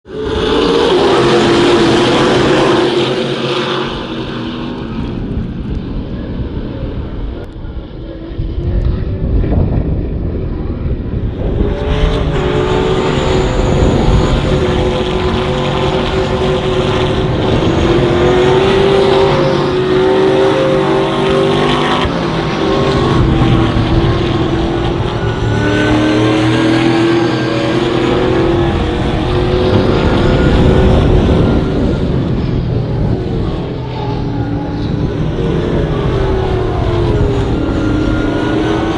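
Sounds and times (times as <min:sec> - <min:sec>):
race car engines accelerating: 0:00.0 - 0:38.9.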